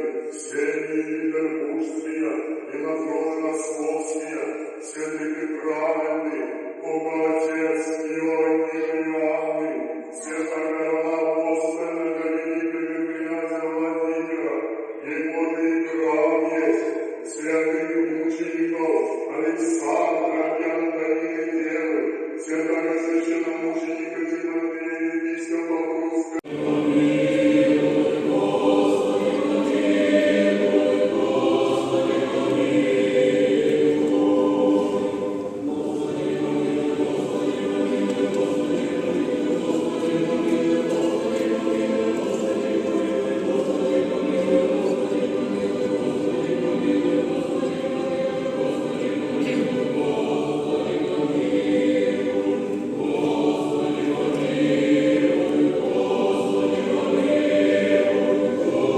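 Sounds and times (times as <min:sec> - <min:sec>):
choir singing sustained chords: 0:00.0 - 0:21.8, 0:26.4 - 0:58.9.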